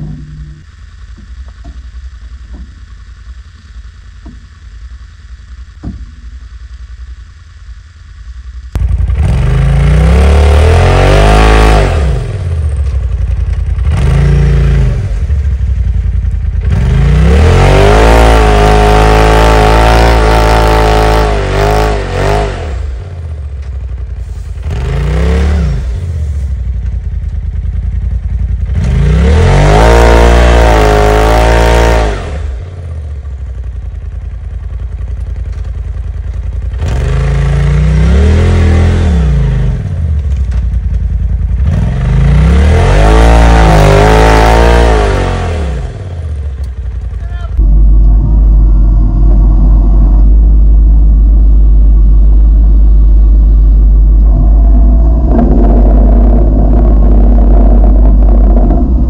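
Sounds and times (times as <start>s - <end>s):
low hum: 0.0s - 59.0s
off-road vehicle engine revving: 8.6s - 59.0s.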